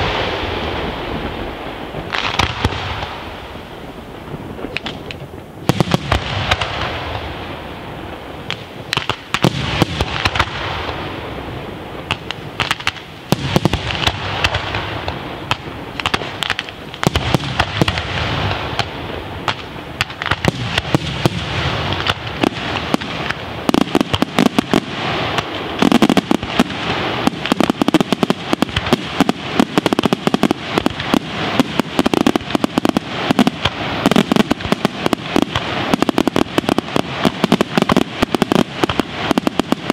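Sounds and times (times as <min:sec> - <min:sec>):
fireworks booming: 0:00.0 - 0:39.9
fireworks crackling: 0:00.0 - 0:39.9.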